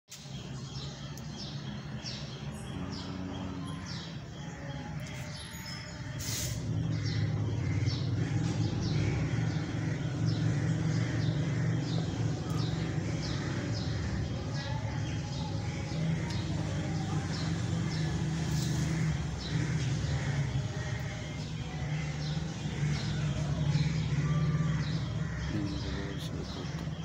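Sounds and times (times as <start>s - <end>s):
bird chirping: 0.1s - 27.0s.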